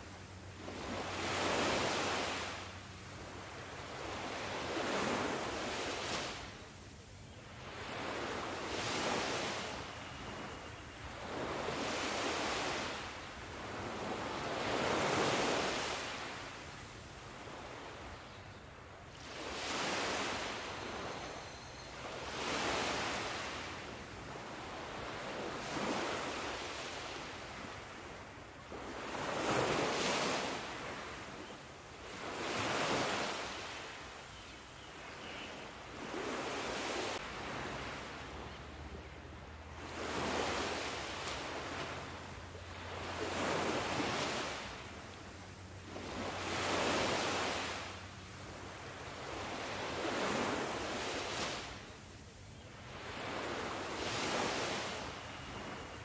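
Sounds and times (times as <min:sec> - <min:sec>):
ocean waves breaking on beach: 0:00.0 - 0:06.8, 0:07.4 - 0:18.1, 0:18.7 - 0:34.3, 0:35.0 - 0:56.0.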